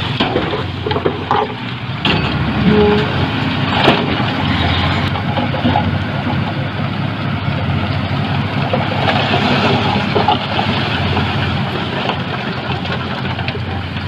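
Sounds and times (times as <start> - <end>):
heavy diesel engine throbbing: 0.0 - 14.0.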